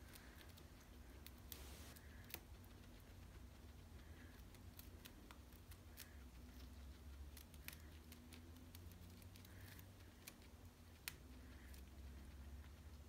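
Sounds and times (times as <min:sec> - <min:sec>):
guinea pig nibbling clicks: 0:00.0 - 0:13.0
low room hum: 0:00.0 - 0:13.0.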